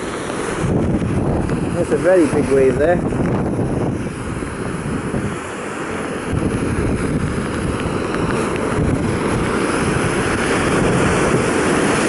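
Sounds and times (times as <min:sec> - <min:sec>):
storm waves breaking: 0:00.0 - 0:12.0
wind buffeting microphone: 0:00.0 - 0:12.0.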